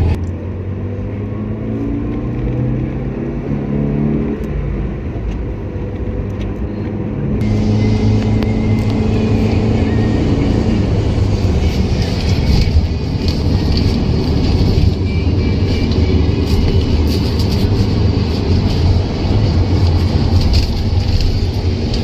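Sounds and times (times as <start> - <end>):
car engine: 0.0 - 22.0.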